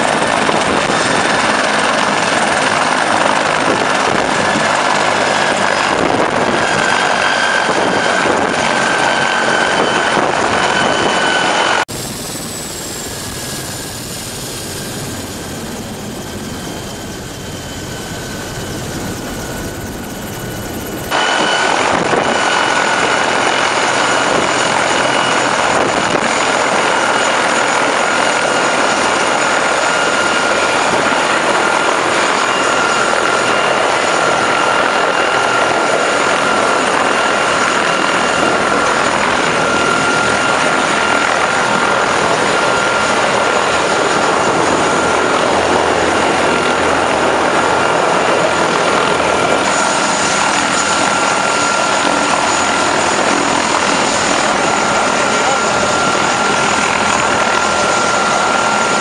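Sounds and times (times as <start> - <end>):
helicopter rotor rush: 0.0 - 59.0
turbine high whine: 0.0 - 59.0.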